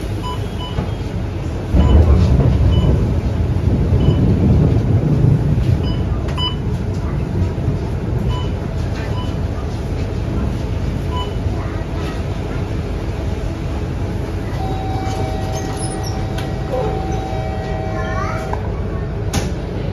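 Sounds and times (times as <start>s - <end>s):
bus diesel engine rumble: 0.0s - 19.9s
road noise: 0.0s - 19.9s.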